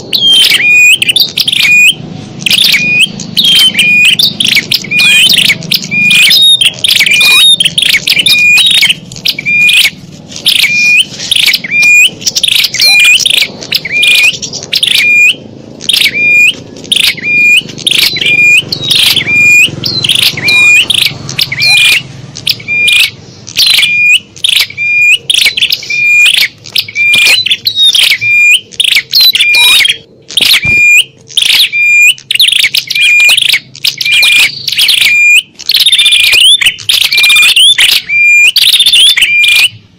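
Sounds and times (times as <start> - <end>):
high piercing bird chirps: 0.0 - 39.9.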